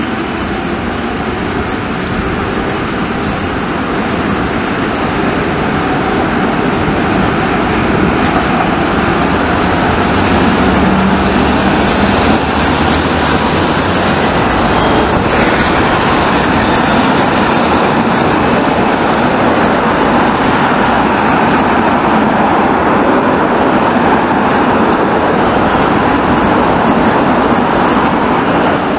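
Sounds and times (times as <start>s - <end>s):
cars passing on street: 0.0s - 28.9s.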